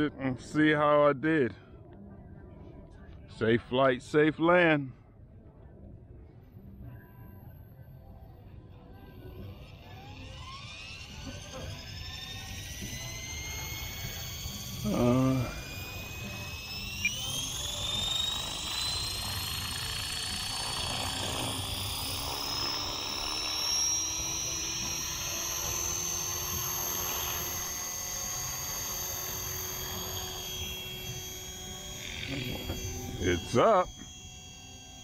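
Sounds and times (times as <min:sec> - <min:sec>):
rc helicopter rotor whine: 0:00.0 - 0:04.3, 0:05.8 - 0:35.0.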